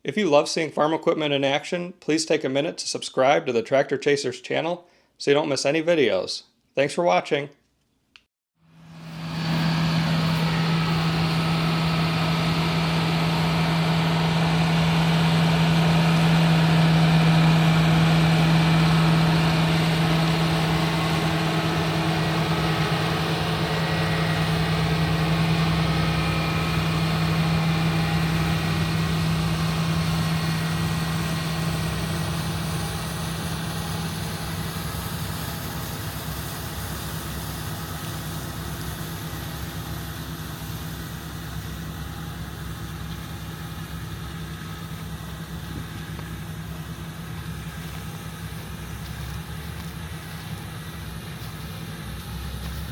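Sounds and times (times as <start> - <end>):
tractor diesel engine running: 8.6 - 52.9.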